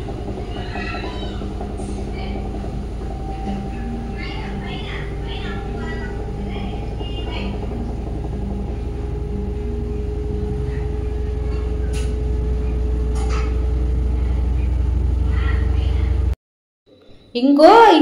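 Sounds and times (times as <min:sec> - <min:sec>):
washing machine running: 0:00.0 - 0:16.4.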